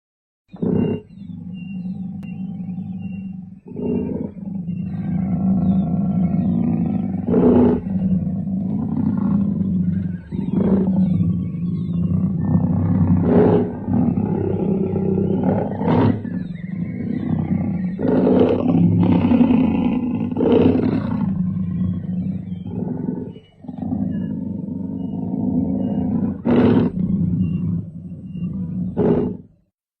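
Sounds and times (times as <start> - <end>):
jaguar snarling or roaring: 0.5 - 29.5
jaguars growling: 0.5 - 29.6.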